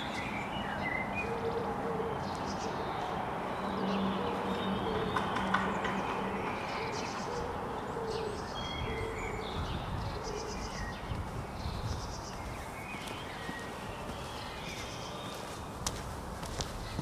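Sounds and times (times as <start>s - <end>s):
birds chirping in trills: 0.0s - 17.0s.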